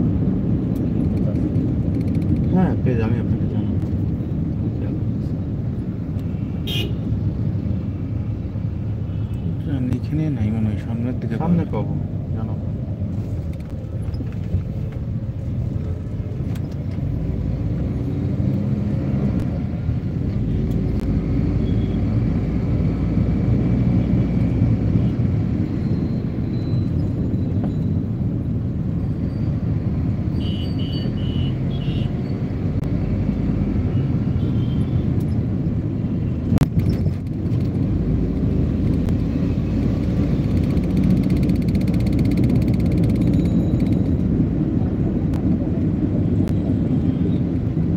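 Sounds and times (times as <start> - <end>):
engine and road noise inside vehicle: 0.0 - 47.9.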